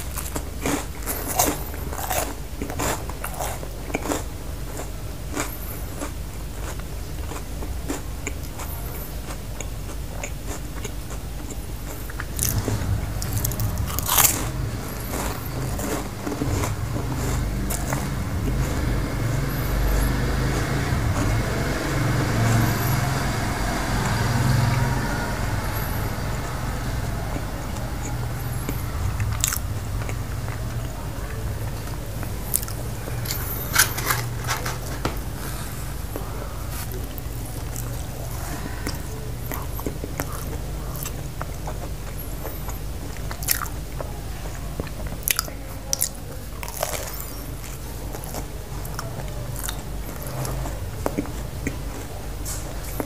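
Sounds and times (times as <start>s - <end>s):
person chewing crunchy bread: 0.0s - 53.0s.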